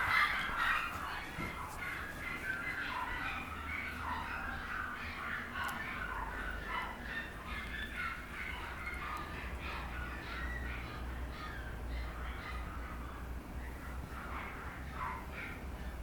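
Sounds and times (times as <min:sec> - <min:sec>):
puppy whining and yelping: 0:00.0 - 0:16.0.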